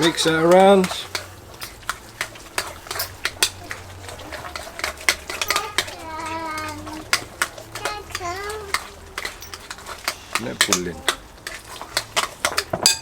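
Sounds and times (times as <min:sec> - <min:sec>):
spoon clinking against bowl: 0:00.0 - 0:13.0.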